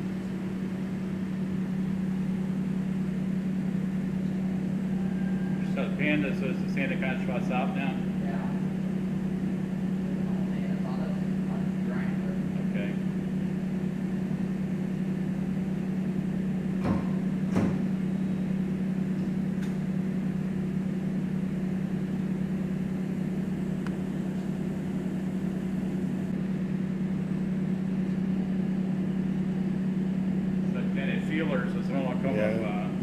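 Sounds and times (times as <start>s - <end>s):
electric machine hum: 0.0s - 33.0s.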